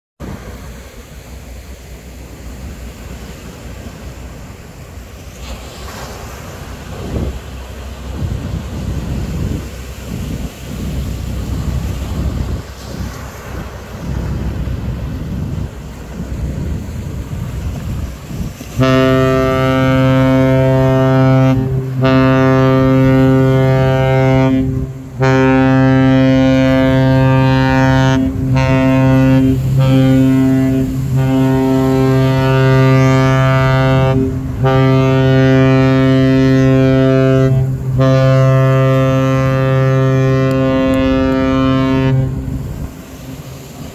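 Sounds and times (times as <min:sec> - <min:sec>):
wind: 0:00.1 - 0:43.9
surf on beach: 0:00.2 - 0:43.9
ship horn long blasts: 0:05.4 - 0:43.9.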